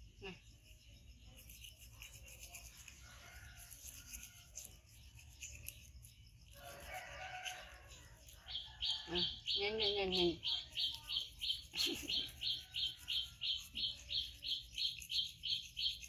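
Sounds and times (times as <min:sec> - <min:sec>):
toothbrush brushing teeth: 0:01.2 - 0:09.4, 0:10.4 - 0:16.0.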